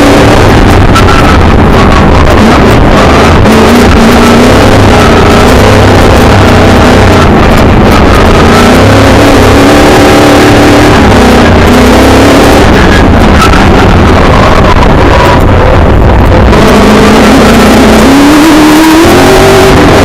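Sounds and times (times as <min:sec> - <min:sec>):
loud steady rush of noise: 0:00.0 - 0:20.0
racing car engine revving: 0:00.0 - 0:20.0.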